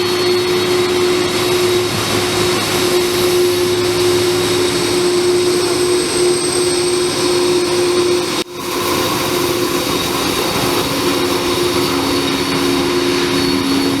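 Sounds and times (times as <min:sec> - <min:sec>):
broad rushing noise: 0:00.0 - 0:14.0
jet engines whining: 0:00.0 - 0:14.0
lower jet whine: 0:00.0 - 0:14.0.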